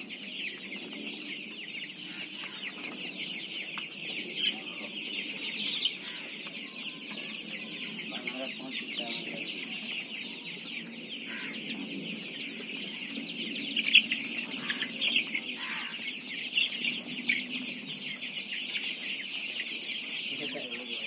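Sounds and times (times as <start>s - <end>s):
chicks peeping: 0.0s - 21.0s
sharp chick chirps: 0.0s - 21.0s.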